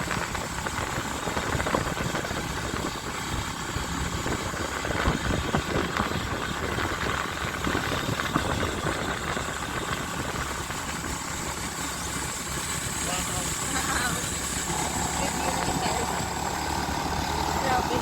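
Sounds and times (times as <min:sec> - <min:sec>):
motorcycle engine running: 0:00.0 - 0:18.0
rushing noise over microphone: 0:00.0 - 0:18.0.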